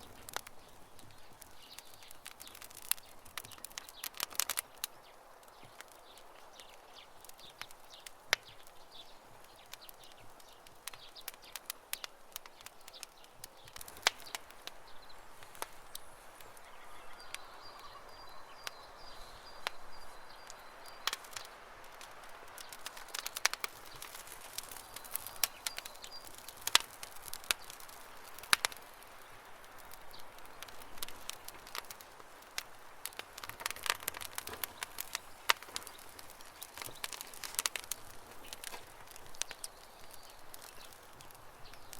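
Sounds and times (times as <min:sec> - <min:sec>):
campfire wood crackling: 0:00.0 - 0:41.9.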